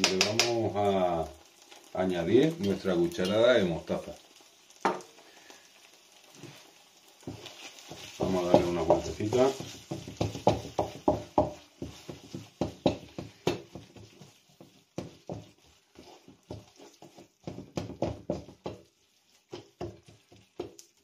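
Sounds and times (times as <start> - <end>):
wooden spatula tapping frying pan: 0.0 - 1.8, 4.7 - 5.2, 6.2 - 21.0.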